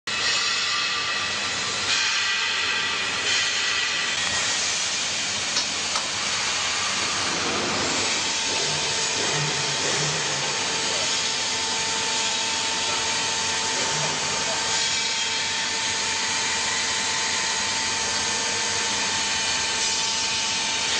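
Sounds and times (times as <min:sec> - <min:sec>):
steady machine whine: 0:00.1 - 0:20.9.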